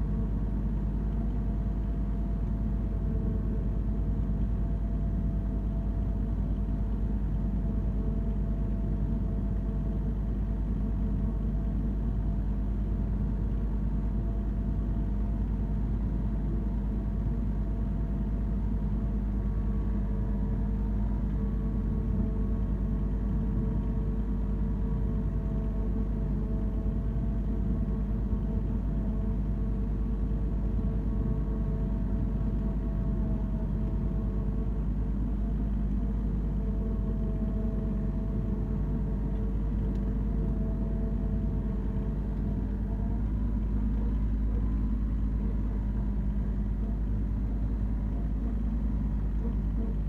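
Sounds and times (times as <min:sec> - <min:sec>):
tractor engine rumbling: 0:09.3 - 0:50.0.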